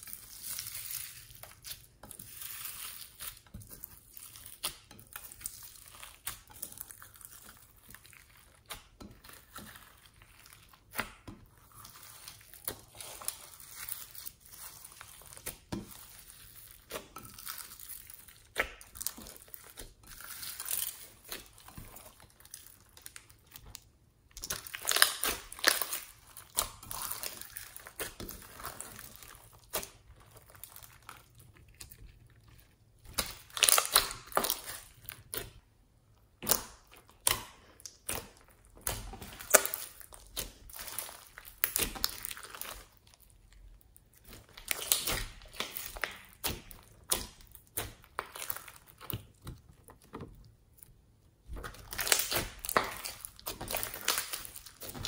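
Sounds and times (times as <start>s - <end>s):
hands squishing slime: 0.0s - 55.0s.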